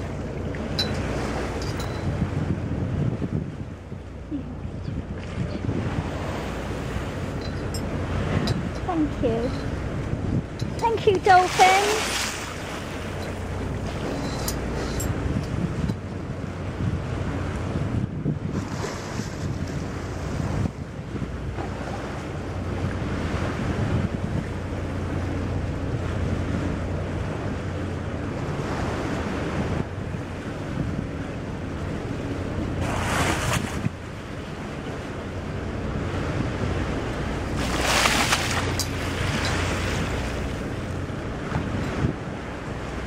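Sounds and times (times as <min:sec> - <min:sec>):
low engine hum: 0:00.0 - 0:43.0
sea rushing along hull: 0:00.0 - 0:43.0
wind buffeting microphone: 0:00.0 - 0:43.0.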